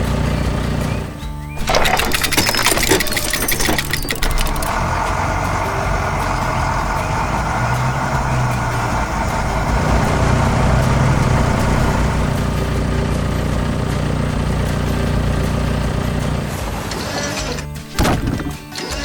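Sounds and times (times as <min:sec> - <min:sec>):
truck engine running: 0:00.0 - 0:18.7.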